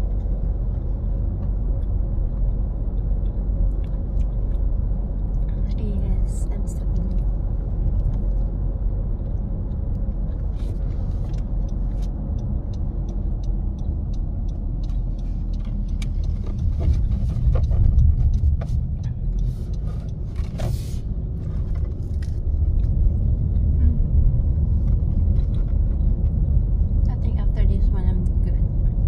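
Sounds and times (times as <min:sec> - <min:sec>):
car cabin rumble: 0:00.0 - 0:29.0.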